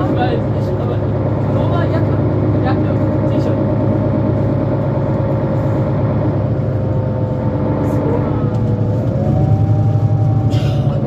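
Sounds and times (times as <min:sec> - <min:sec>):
bus engine hum: 0:00.0 - 0:11.0
drivetrain whine: 0:00.0 - 0:11.0.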